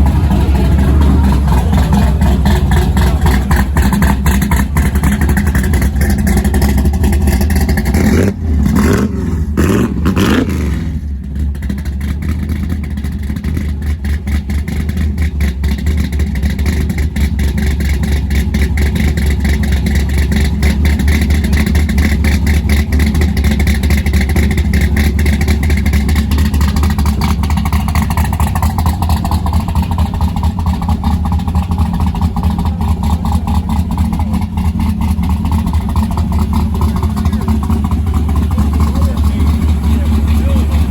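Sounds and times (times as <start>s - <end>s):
car engine with deep exhaust: 0.0s - 40.9s.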